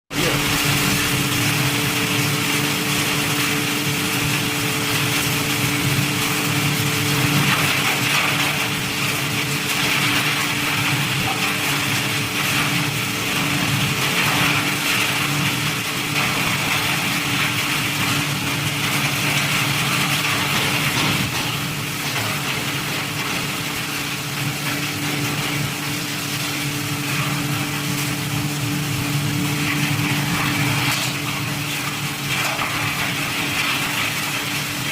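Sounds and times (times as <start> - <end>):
wood crusher humming and hissing: 0.1 - 34.9.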